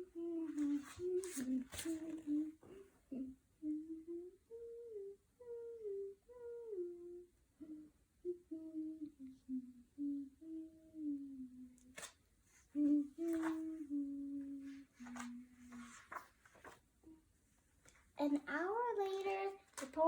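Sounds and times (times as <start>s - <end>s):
person humming a tune: 0.0s - 16.2s.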